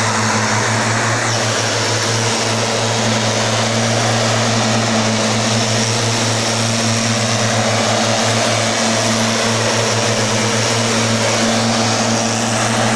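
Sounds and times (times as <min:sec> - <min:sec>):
fan rushing air: 0:00.0 - 0:12.9
mist blower engine droning: 0:00.0 - 0:12.9.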